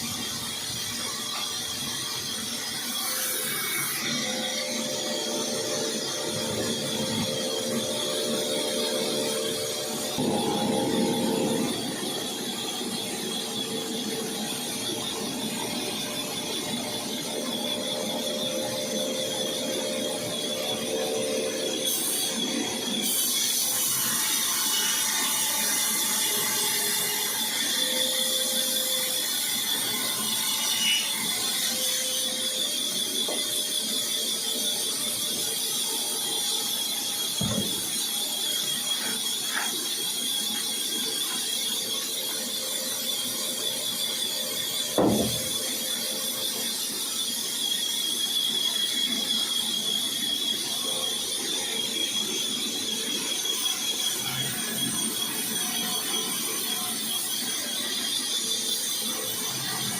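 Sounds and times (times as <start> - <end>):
power tool high-pitched whine: 0.0 - 59.9.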